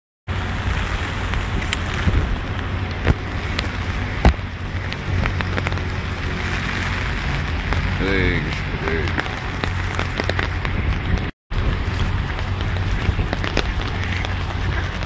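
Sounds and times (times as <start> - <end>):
drips and splashes: 0.3 - 15.0
heavy rain falling: 0.3 - 15.0
low rumble: 0.3 - 15.0.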